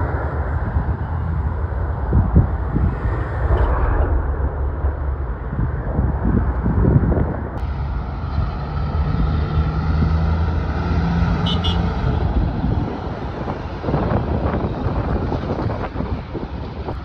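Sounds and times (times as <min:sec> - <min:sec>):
diesel truck engine passing: 0:00.8 - 0:14.5.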